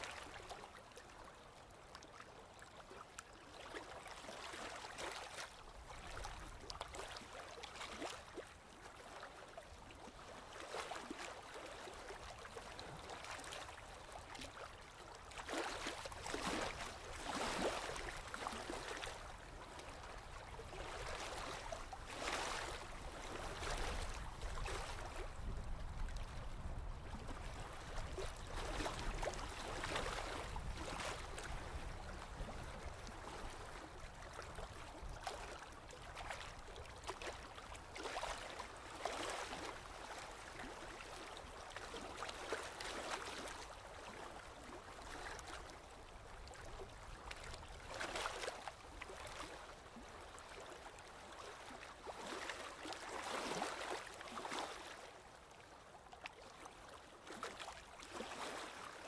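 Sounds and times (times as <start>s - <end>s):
small waves lapping and splashing: 0.0s - 59.0s
low rumble of sea: 0.1s - 59.0s.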